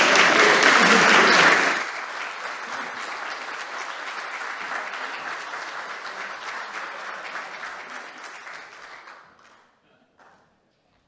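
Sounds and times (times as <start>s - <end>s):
audience clapping: 0.0s - 10.5s.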